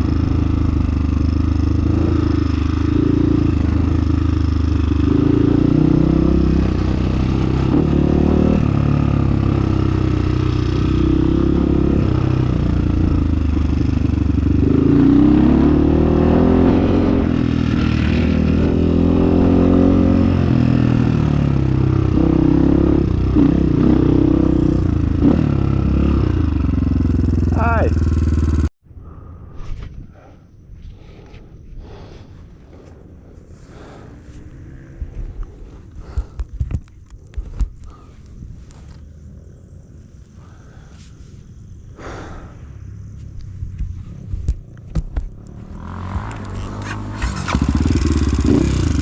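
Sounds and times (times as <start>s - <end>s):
motorcycle engine revving: 0.0s - 28.7s, 32.7s - 49.0s.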